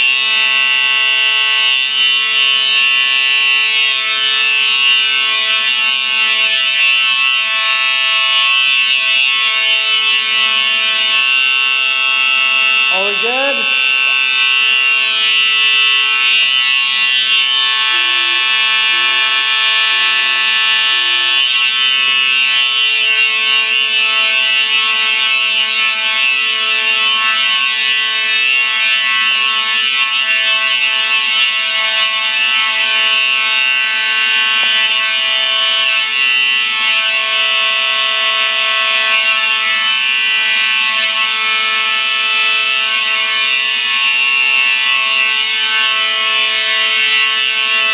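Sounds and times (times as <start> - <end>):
fire alarms ringing: 0.0 - 47.9
low pulsing alarm tone: 0.0 - 47.9.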